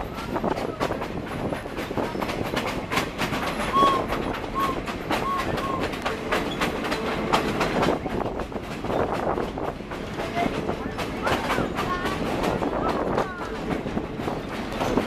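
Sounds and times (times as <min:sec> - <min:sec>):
clatter over rail joints: 0:00.0 - 0:15.0
train wheels rumbling: 0:00.0 - 0:15.0.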